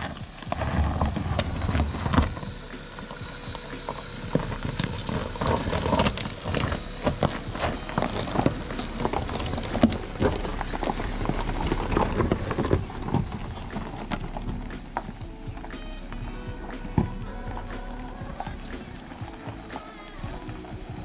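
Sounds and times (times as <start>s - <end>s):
tyres crunching over gravel: 0.0s - 21.0s
vehicle low rumble: 0.0s - 21.0s.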